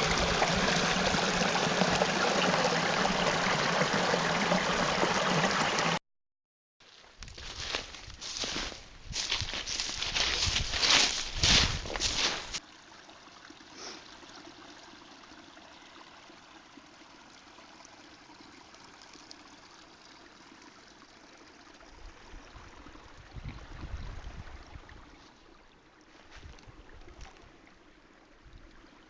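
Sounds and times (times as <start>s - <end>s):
stream trickling and rushing: 0.0s - 6.0s, 7.4s - 29.0s.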